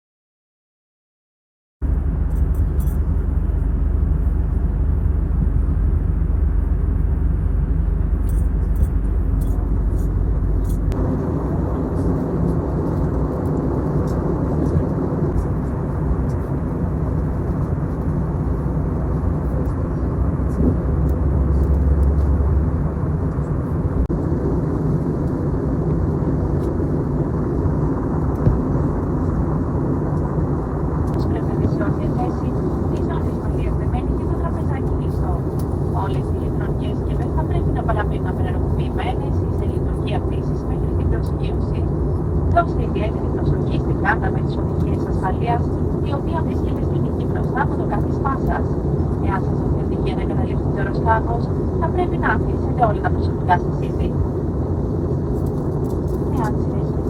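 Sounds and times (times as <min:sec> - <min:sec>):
cabin airflow rush: 0:01.8 - 0:57.0
jet engine rumble: 0:01.8 - 0:57.0.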